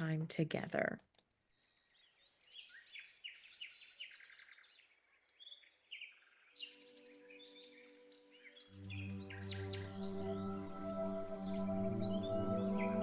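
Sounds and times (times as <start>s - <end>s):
birds chirping and trilling: 1.2s - 13.0s.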